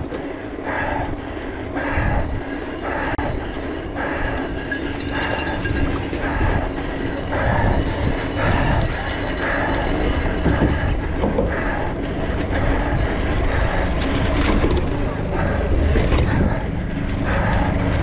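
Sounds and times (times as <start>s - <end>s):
bike rattling: 0.0s - 18.0s
bike tyres rumbling: 0.0s - 18.0s.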